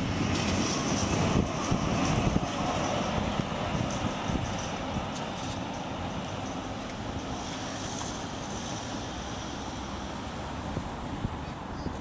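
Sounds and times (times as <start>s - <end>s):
wind on microphone: 0.0s - 9.2s, 10.6s - 12.0s
passing cars: 0.0s - 12.0s
tram pulling away: 0.0s - 12.0s.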